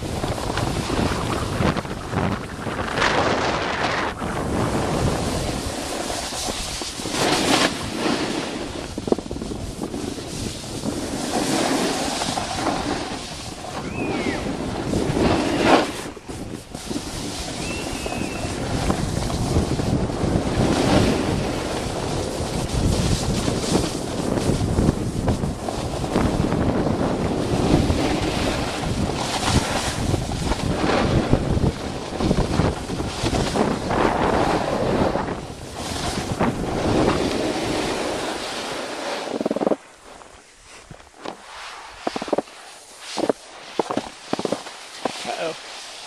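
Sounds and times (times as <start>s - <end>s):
wind buffeting microphone: 0.0s - 38.5s
skis hissing over snow: 0.0s - 46.0s.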